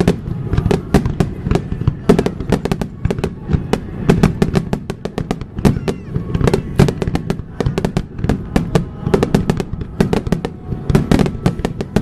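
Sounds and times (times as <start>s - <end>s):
fireworks bangs and crackles: 0.0s - 12.0s
low rumble of echoing explosions: 0.0s - 12.0s.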